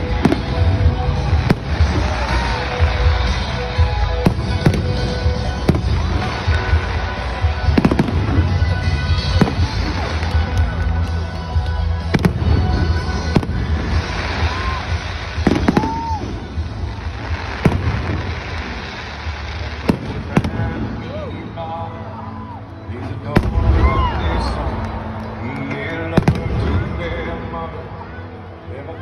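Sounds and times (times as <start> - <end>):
fireworks bangs: 0.0 - 21.4, 23.1 - 27.6
fireworks crackling: 0.0 - 28.7
music over stadium speakers: 0.0 - 29.0.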